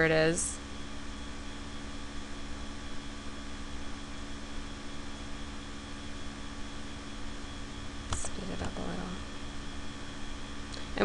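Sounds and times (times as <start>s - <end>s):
laptop cooler fans humming: 0.0s - 11.0s.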